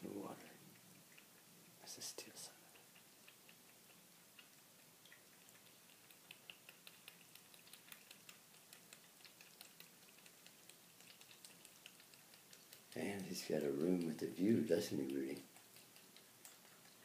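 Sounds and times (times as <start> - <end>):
cats lapping water: 0.0 - 17.0.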